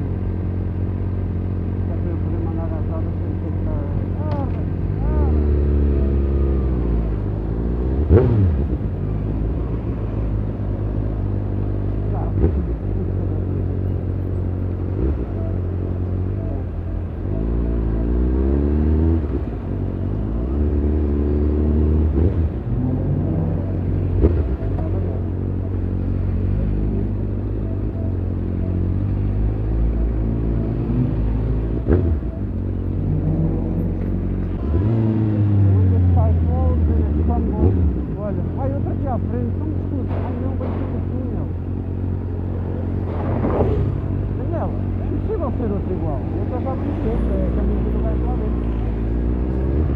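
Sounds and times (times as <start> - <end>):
vehicle engine droning: 0.0 - 49.9.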